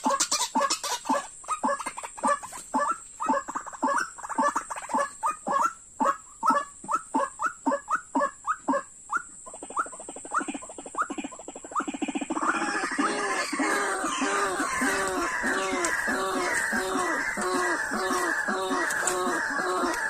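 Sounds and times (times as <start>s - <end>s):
bird harsh calls: 0.0s - 20.0s.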